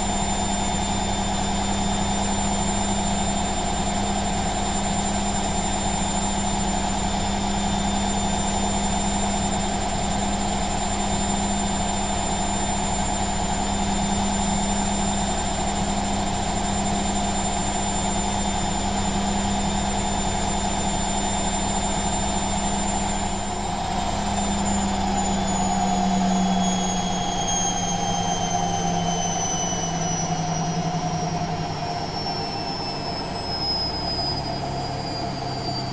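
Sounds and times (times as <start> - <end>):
high-pitched motor whine: 0.0 - 35.9
washing machine spinning: 0.0 - 35.9.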